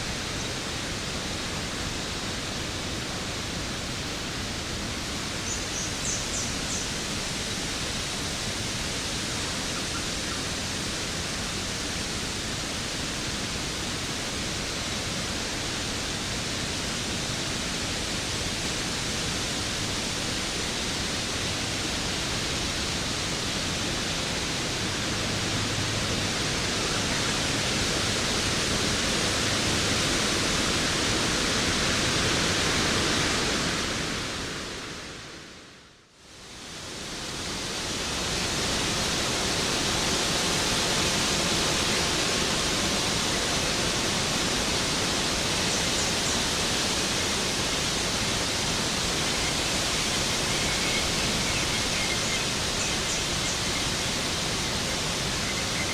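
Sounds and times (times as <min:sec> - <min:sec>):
waterfall rushing: 0:00.0 - 0:35.4, 0:36.4 - 0:55.9.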